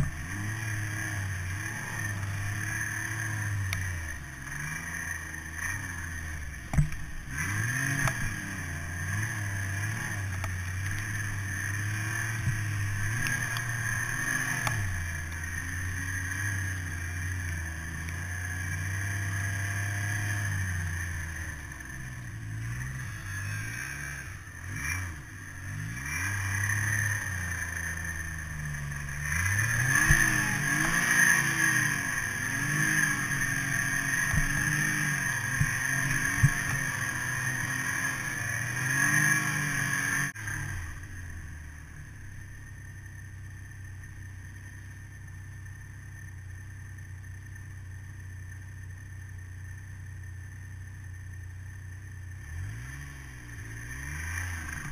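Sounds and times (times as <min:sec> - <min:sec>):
snowmobile engine running: 0:00.0 - 0:54.9.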